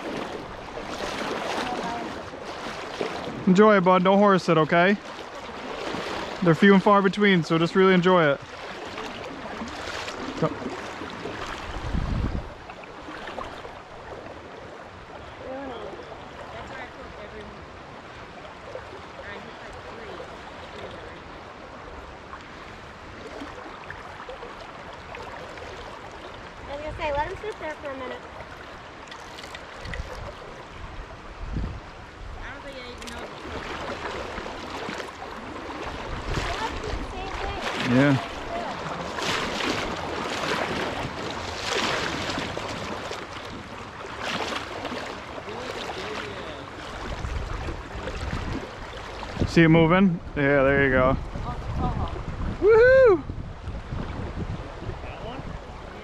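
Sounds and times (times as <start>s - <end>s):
river current rushing: 0.0s - 56.0s.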